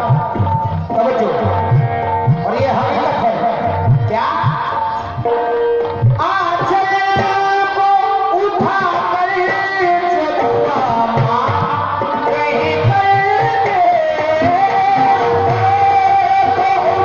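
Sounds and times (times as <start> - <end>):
low drum beats: 0.0 - 17.0.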